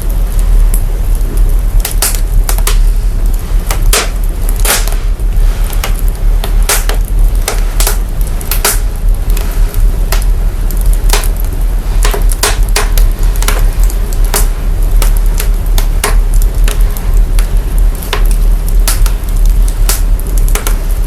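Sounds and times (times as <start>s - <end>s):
deep bass rumble: 0.0s - 21.0s
fire crackling and popping: 0.0s - 21.0s.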